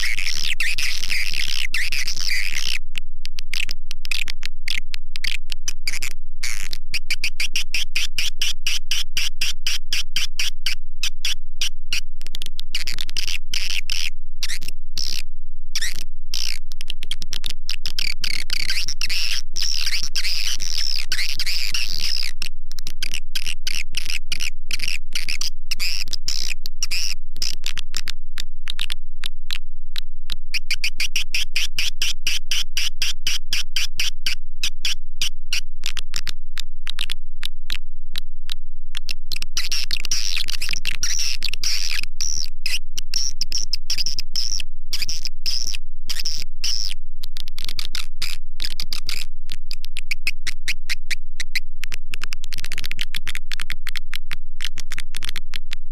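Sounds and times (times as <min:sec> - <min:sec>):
high chirping clicks: 0:00.0 - 0:55.8.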